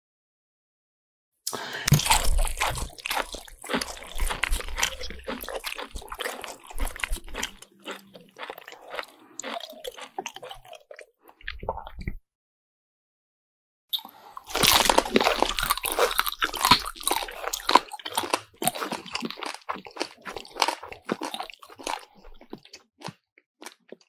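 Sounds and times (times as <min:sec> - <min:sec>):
crisp crunching and chewing: 0:01.5 - 0:12.0, 0:14.3 - 0:24.0.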